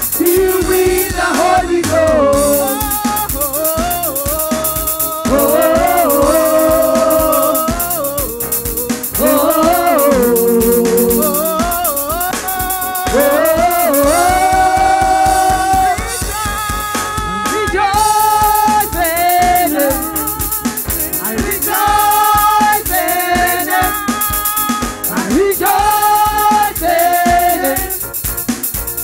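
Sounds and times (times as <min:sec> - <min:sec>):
band with steady drum beat: 0:00.0 - 0:29.0
women singing gospel: 0:00.2 - 0:04.0, 0:05.1 - 0:28.1.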